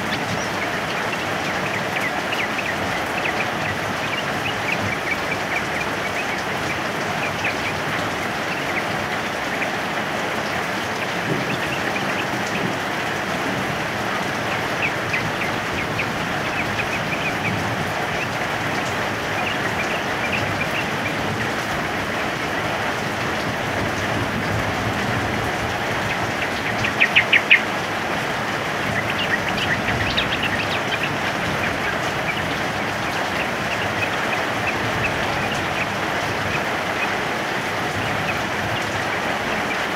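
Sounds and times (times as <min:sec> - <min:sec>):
birds chirping: 0:00.0 - 0:39.9
heavy rain: 0:00.0 - 0:39.9.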